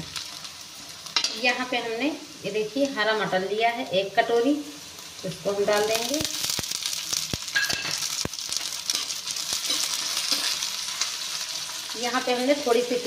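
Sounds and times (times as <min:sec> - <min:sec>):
peas sizzling in hot oil: 0:00.0 - 0:13.0.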